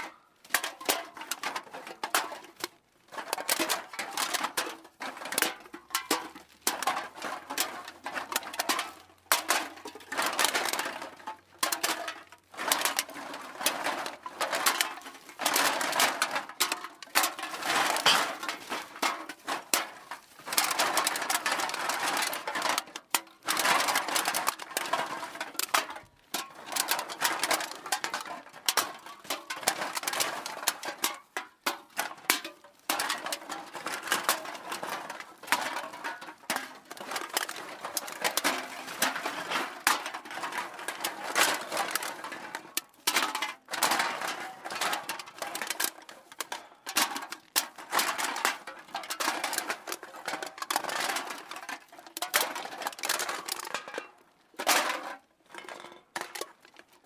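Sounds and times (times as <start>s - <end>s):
bottles and cans clattering: 0.0s - 57.0s.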